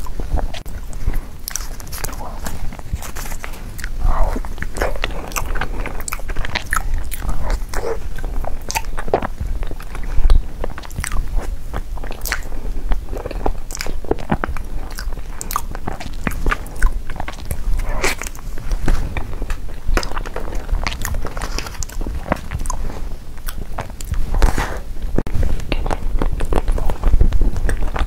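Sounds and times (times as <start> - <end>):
chewing crunchy dessert: 0.0 - 28.0
mouth clicks: 0.0 - 28.0.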